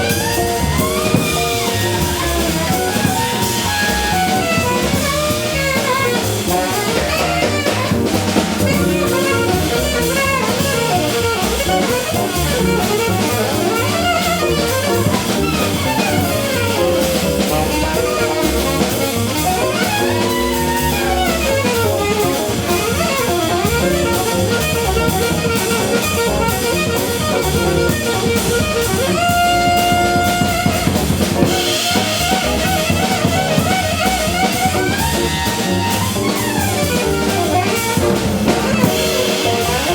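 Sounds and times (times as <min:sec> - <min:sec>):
bass: 0:00.0 - 0:39.9
drum kit: 0:00.0 - 0:39.9
saxophone melody: 0:00.0 - 0:39.9.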